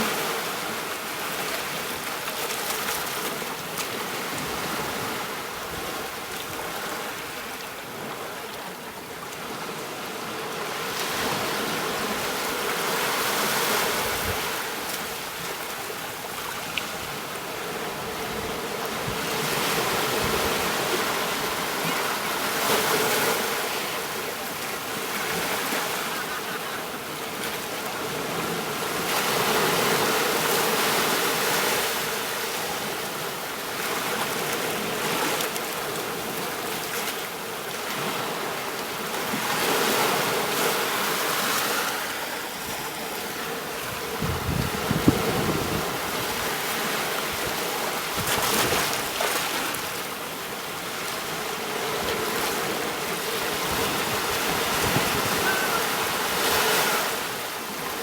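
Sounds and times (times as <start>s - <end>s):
ocean waves washing onto beach: 0.0s - 58.0s.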